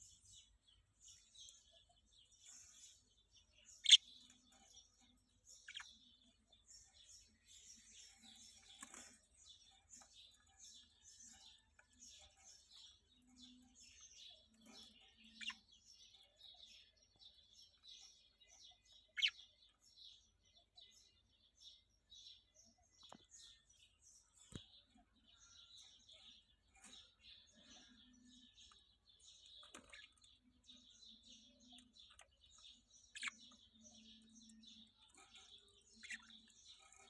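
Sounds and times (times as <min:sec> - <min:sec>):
small birds chirping and twittering: 0:00.0 - 0:37.0.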